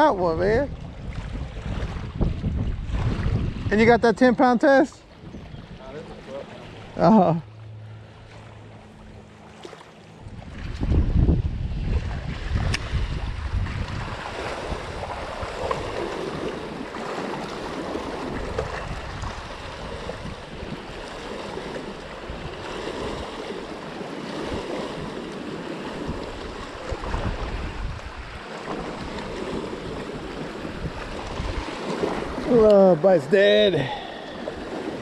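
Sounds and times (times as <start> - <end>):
wind buffeting microphone: 0.0 - 7.0, 10.2 - 35.0
waves lapping against rocks: 0.0 - 35.0.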